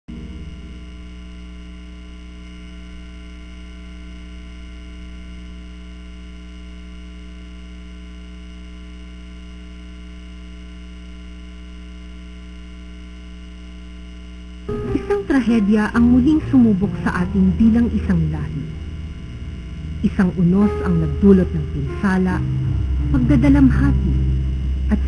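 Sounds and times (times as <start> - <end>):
electrical mains hum: 0.1 - 25.0.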